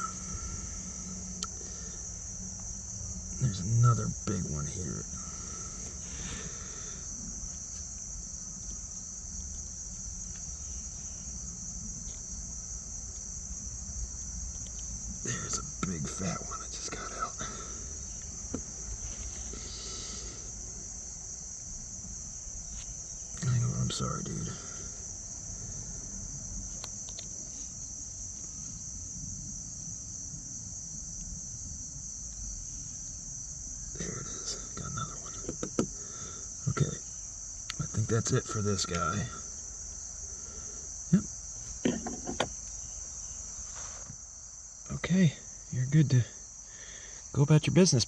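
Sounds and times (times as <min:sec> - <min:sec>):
insect chorus trilling: 0:00.0 - 0:48.0.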